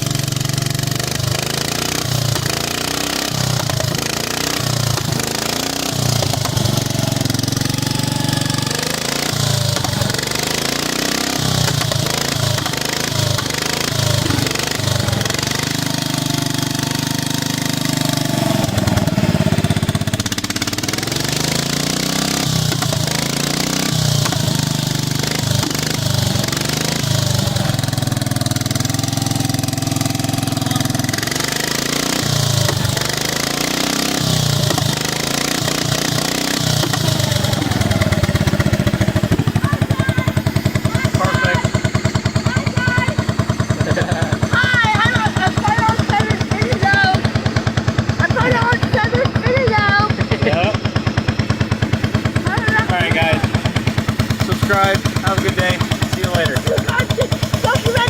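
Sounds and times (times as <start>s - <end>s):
petrol engine idling unevenly: 0.0s - 58.0s.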